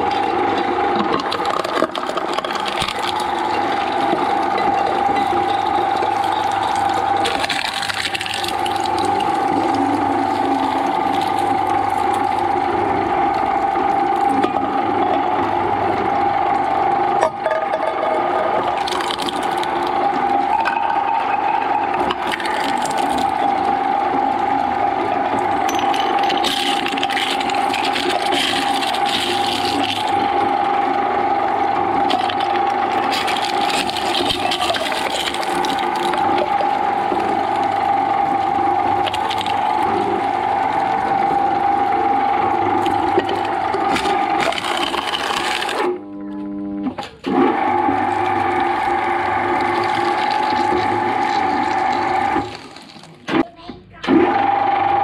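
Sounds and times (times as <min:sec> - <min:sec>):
cans crunching and scraping: 0:00.0 - 0:15.4, 0:17.0 - 0:45.9, 0:47.6 - 0:53.4
shredder whine: 0:00.0 - 0:53.4, 0:54.0 - 0:55.0.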